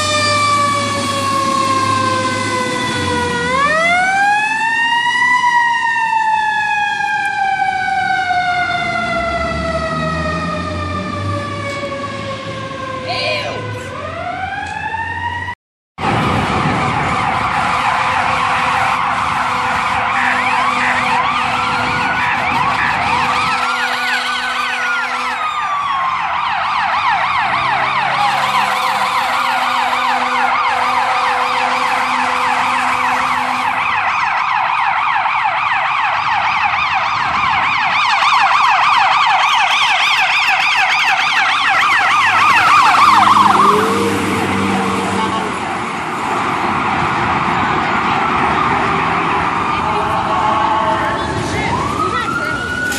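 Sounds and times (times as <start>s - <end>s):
siren yelping: 0.0s - 15.6s, 16.2s - 52.9s
siren wailing: 0.0s - 52.9s.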